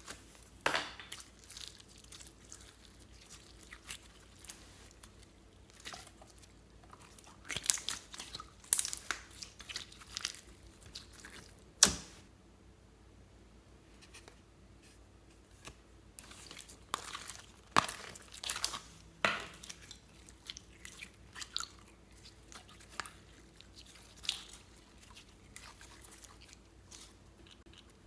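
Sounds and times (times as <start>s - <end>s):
slime crackling and crunching: 0.0s - 11.7s, 15.6s - 27.8s.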